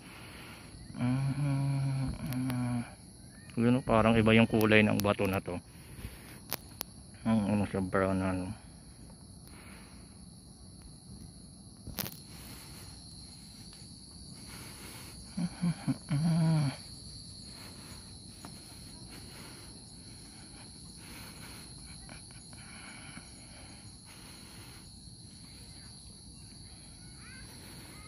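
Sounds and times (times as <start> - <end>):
faint outdoor noise: 0.0 - 28.0
insects trilling: 0.0 - 28.0.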